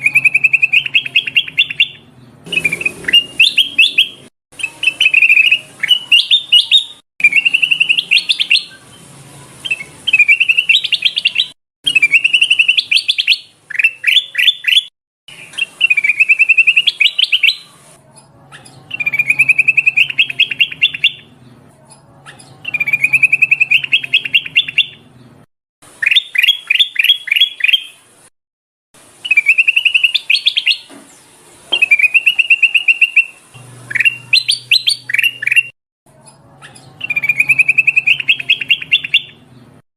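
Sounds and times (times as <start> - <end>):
bulbul singing chattering phrases: 0.0 - 25.1, 25.9 - 28.1, 31.7 - 39.5.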